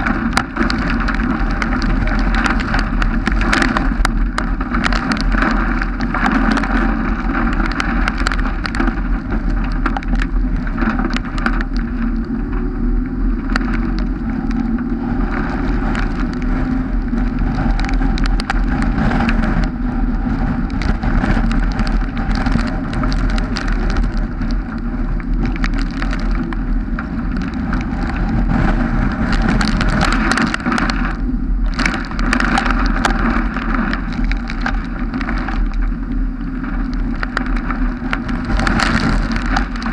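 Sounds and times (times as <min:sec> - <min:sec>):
raindrops ticking on camera: 0:00.0 - 0:39.9
tyre and wind noise: 0:00.0 - 0:39.9.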